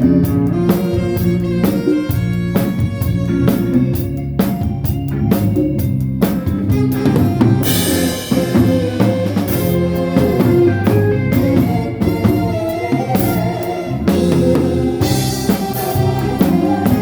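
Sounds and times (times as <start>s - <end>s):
bass drum and snare: 0.0s - 17.0s
live band playing: 0.0s - 17.0s.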